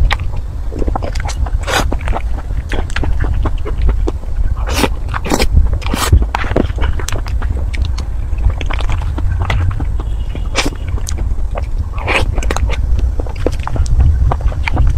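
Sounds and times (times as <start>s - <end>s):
steady low rumble: 0.0s - 14.9s
wet chewing and mouth clicks: 0.0s - 14.9s
loud squelches: 0.8s - 14.9s.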